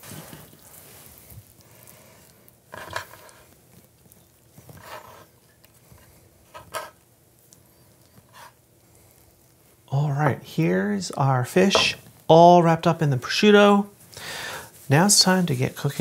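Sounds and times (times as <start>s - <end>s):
soft rustles of handling food: 0.0s - 11.1s, 13.9s - 16.0s.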